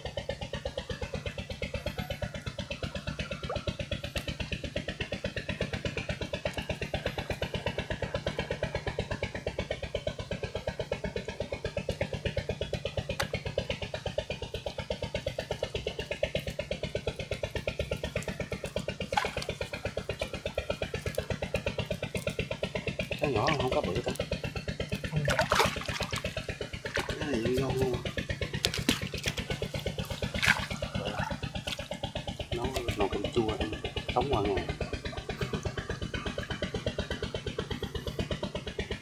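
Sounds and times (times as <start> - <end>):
chainsaw engine running: 0.0 - 39.0.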